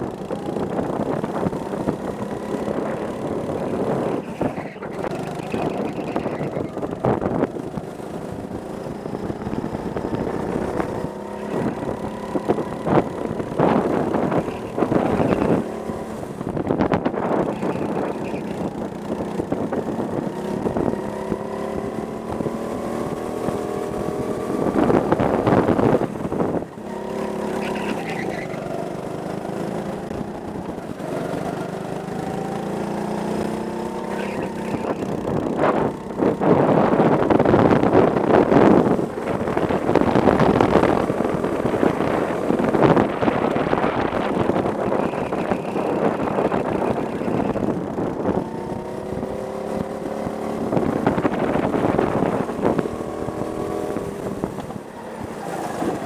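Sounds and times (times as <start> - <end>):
go-kart engine revving: 0.0 - 56.0
wind rushing on microphone: 0.0 - 56.0.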